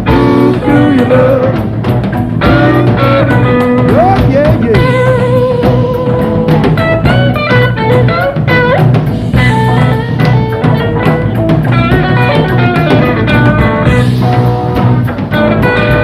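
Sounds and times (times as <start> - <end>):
bass guitar: 0.0 - 16.0
drum kit: 0.0 - 16.0
electric guitar lead: 0.0 - 16.0.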